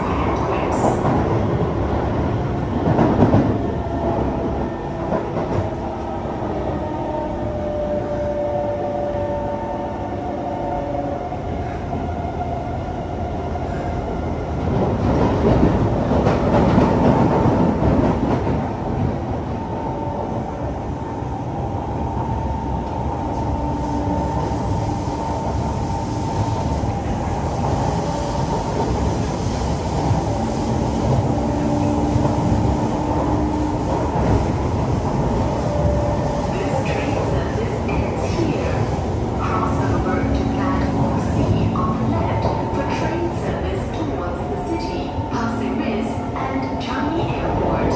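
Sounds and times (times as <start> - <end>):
train wheels rumbling on rail: 0.0 - 9.4, 11.0 - 47.9.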